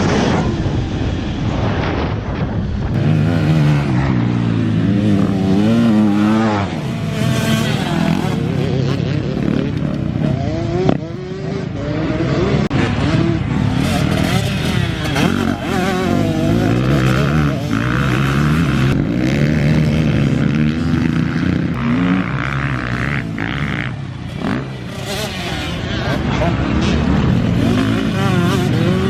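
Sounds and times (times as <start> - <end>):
motocross engine revving: 2.9 - 29.0.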